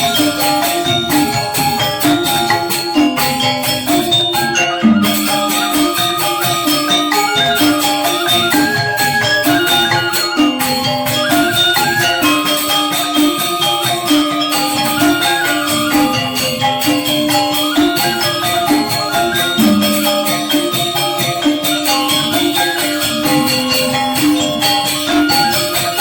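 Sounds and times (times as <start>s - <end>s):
bamboo xylophones: 0.0s - 26.0s
gong-chimes: 0.0s - 26.0s.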